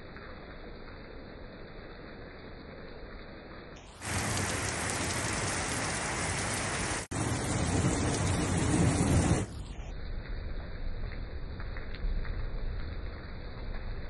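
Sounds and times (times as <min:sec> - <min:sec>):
faint dull rain hiss: 0:00.0 - 0:14.0
heavy rain pouring: 0:00.0 - 0:14.0.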